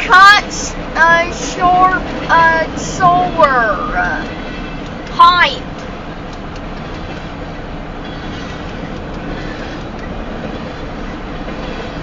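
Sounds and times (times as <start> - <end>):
freight train rumbling past: 0.0 - 12.0
wheels clacking over rail joints: 0.0 - 12.0.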